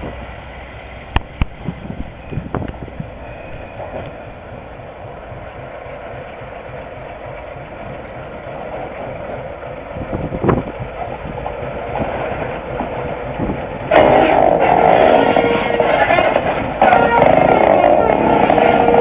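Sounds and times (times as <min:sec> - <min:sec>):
locomotive engine running: 0:00.0 - 0:19.0.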